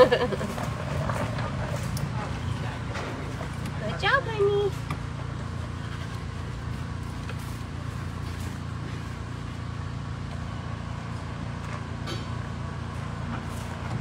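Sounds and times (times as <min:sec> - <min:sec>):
small cart engine running: 0:00.0 - 0:14.0.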